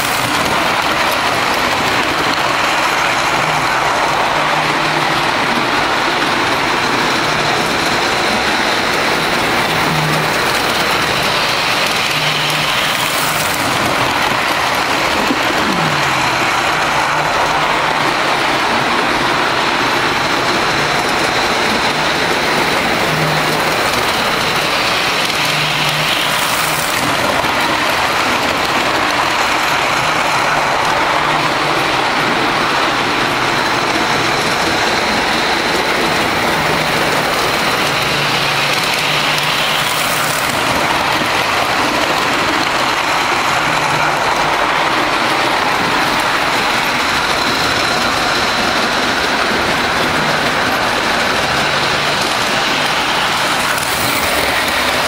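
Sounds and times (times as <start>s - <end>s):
metal wheels rolling on rails: 0.0s - 55.0s.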